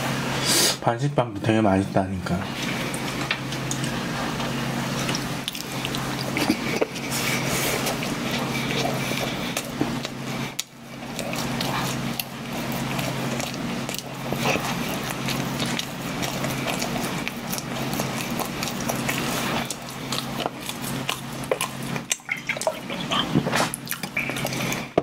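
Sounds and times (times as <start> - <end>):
person chewing with lip smacks: 3.6 - 4.0, 5.0 - 25.0.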